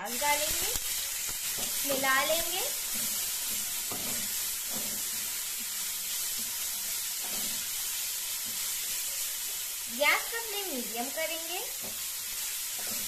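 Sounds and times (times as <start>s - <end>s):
onions sizzling in oil: 0.0s - 13.0s
spatula strokes in pan: 0.0s - 13.0s.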